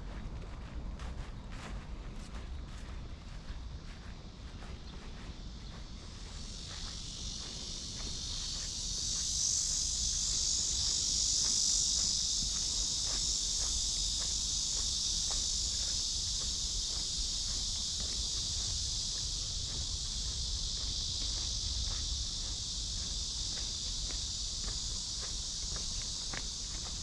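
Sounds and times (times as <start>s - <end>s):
faint footsteps: 0.0s - 27.0s
cicadas shrilling: 1.4s - 27.0s.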